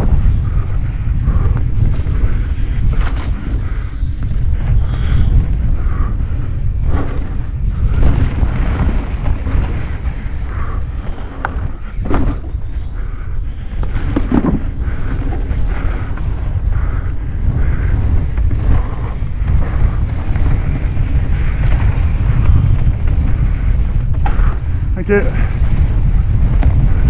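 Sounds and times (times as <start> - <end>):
bike knocking and rattling: 0.0 - 27.0
bike tyres rolling on dirt: 0.0 - 27.0
wind buffeting microphone: 0.0 - 27.0.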